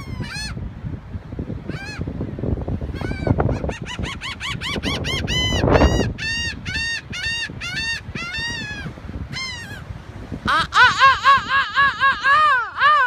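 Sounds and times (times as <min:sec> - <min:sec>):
gulls calling: 0:00.0 - 0:00.6, 0:01.6 - 0:02.1, 0:02.9 - 0:13.0.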